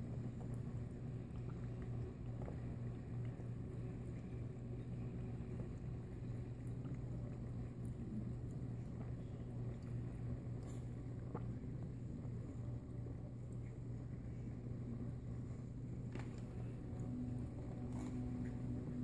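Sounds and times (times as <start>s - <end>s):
aquarium filter humming: 0.0s - 19.0s.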